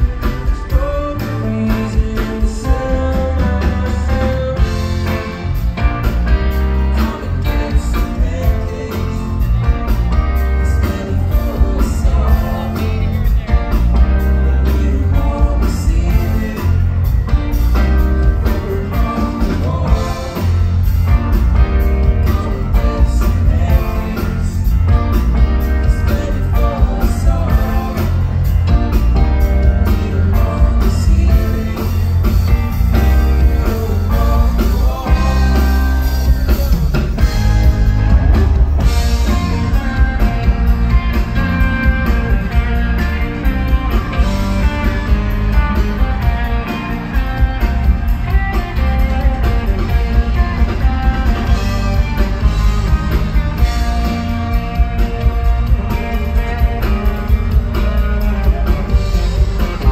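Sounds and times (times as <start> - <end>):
electric guitar: 0.0 - 59.9
heavy bass line: 0.0 - 59.9
steady drum beat: 0.0 - 59.9.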